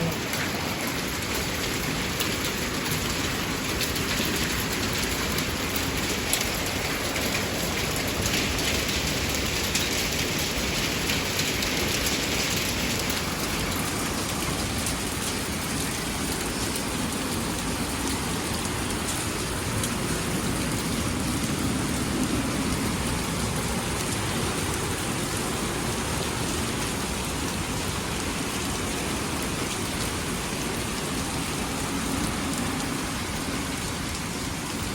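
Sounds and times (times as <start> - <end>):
heavy rain and hail: 0.0 - 34.9.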